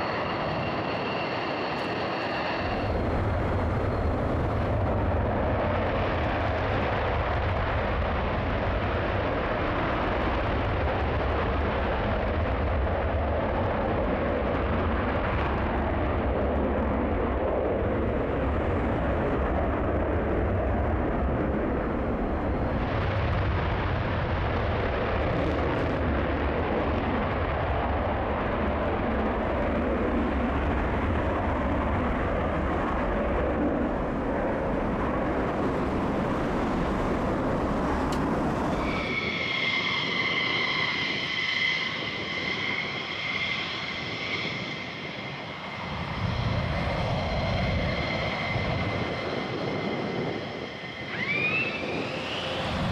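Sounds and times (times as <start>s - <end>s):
jet engine afterburner roar: 0.0s - 52.9s.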